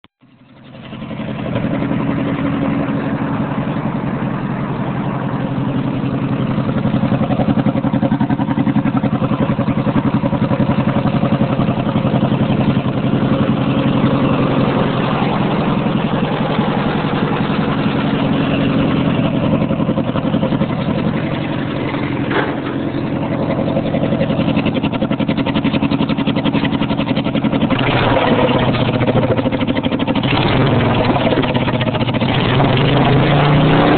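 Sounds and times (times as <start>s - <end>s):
lawn mower engine running: 0.2s - 33.9s.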